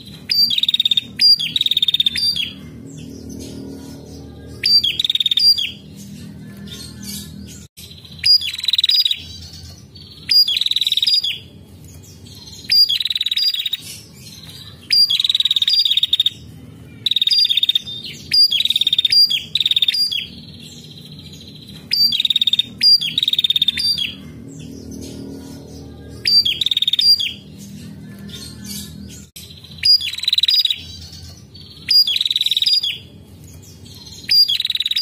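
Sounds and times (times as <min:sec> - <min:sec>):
bird chattering trills: 0:00.0 - 0:11.5, 0:12.3 - 0:33.1, 0:33.7 - 0:35.0.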